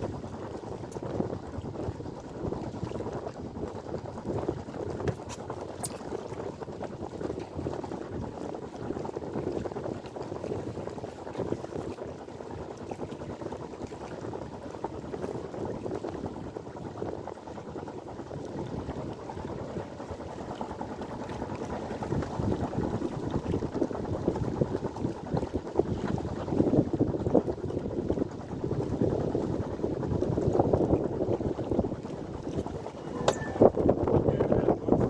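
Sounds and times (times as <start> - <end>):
water splashing along boat hull: 0.0 - 16.3, 18.3 - 35.0
wind buffeting microphone: 0.0 - 35.0.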